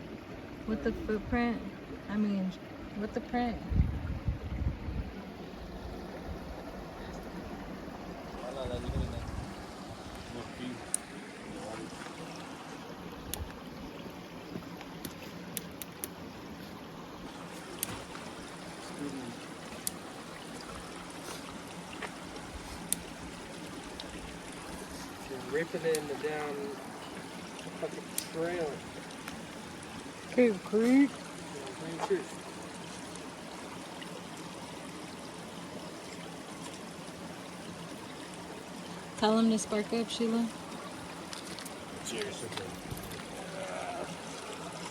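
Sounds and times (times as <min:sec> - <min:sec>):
stream water flowing: 0:00.0 - 0:44.9.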